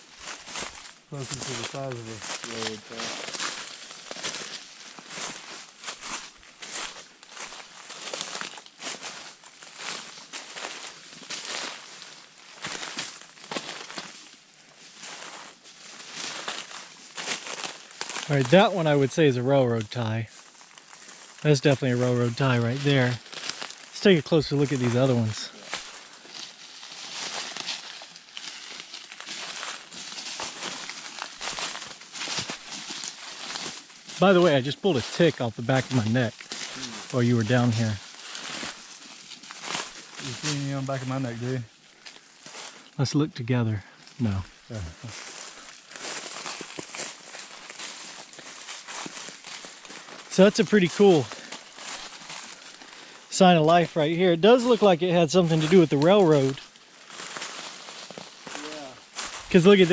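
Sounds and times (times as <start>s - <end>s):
footsteps crunching dry leaves: 0.0s - 43.0s, 43.6s - 59.9s.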